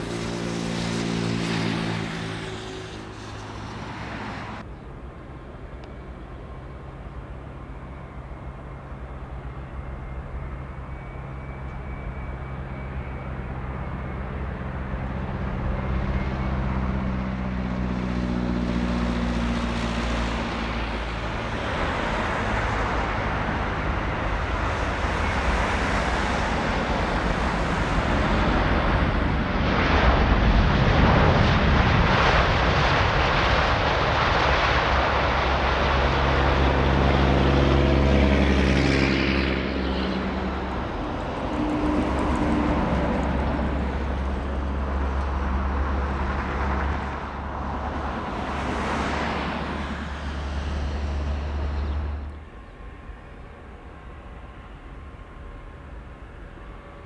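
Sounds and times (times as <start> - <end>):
jet airliner engines passing: 0.0 - 57.0.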